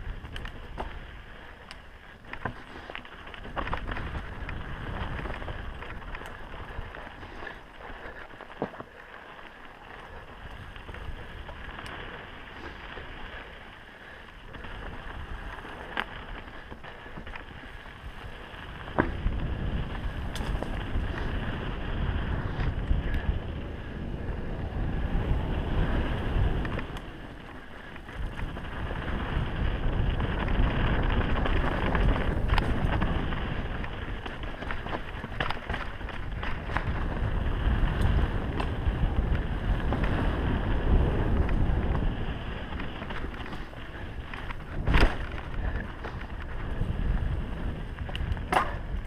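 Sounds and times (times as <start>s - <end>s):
wind buffeting microphone: 0.0s - 8.8s, 9.4s - 49.0s
bike rattle: 0.0s - 49.0s
tyre noise: 0.0s - 49.0s
wheels knocking on rocks: 0.0s - 49.0s.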